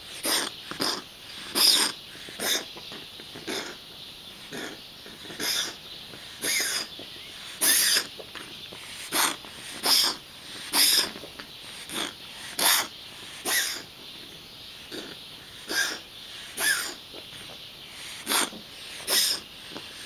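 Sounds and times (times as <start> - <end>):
pet wheezing: 0.0 - 14.0, 14.8 - 20.0.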